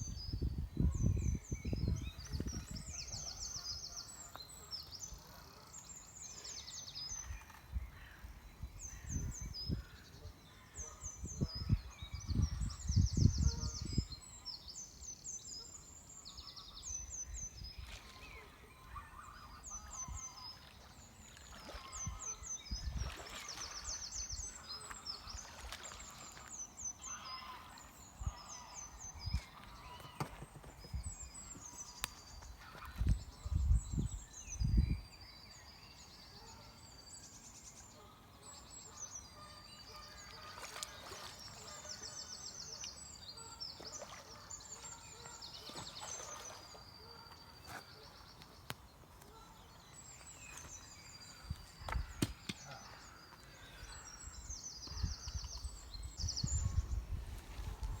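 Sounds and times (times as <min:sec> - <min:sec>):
birds calling and singing: 0:00.0 - 0:58.0.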